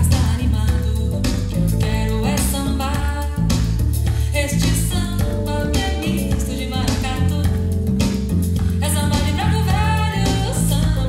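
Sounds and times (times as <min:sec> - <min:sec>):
pop song over loudspeakers: 0:00.0 - 0:11.0.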